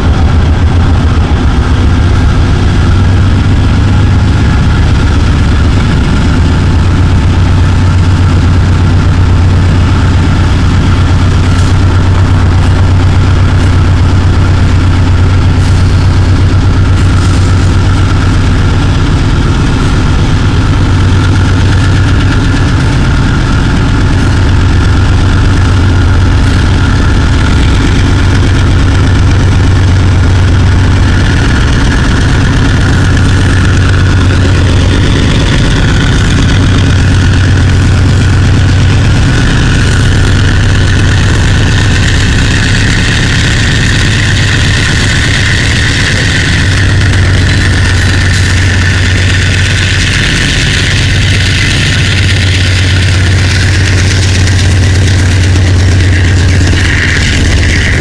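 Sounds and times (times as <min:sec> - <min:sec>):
high whine: 0:00.0 - 0:58.0
locomotive diesel engine drone: 0:00.0 - 0:58.0.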